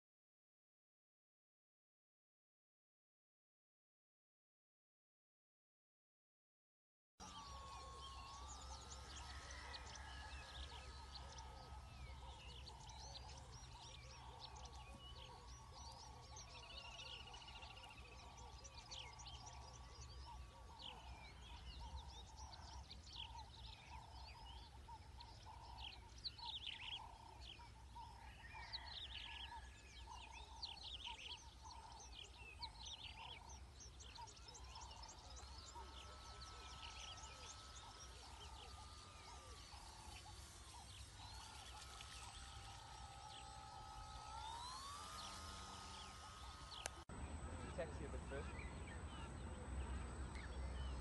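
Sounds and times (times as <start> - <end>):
birds chirping and calling: 7.2 - 51.0
electric motor whine: 7.2 - 51.0.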